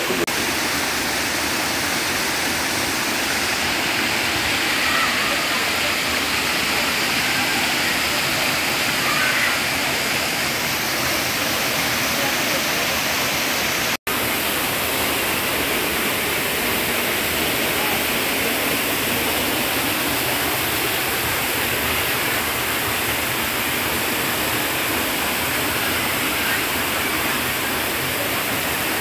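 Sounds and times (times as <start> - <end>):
waterfall roaring over rocks: 0.0 - 29.0.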